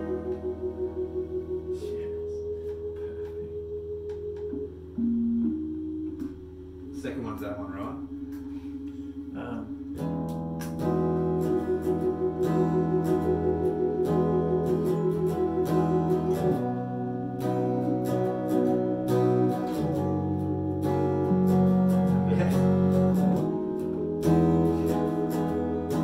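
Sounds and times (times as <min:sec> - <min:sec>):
electric guitar chords: 0:00.0 - 0:26.0
keyboard chords: 0:00.0 - 0:26.0.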